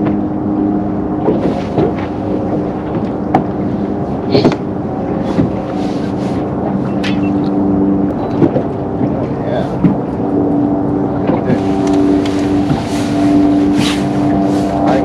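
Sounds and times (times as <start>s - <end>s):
boat motor running: 0.0s - 15.0s
water noise: 0.0s - 15.0s
wind: 0.0s - 15.0s.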